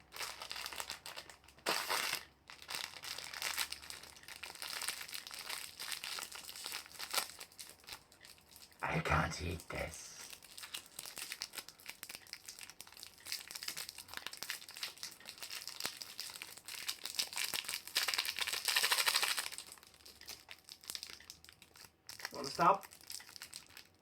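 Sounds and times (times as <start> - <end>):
packets torn open: 0.0 - 8.7, 10.2 - 24.0
wrappers crinkling and rustling: 0.0 - 8.8, 9.7 - 24.0.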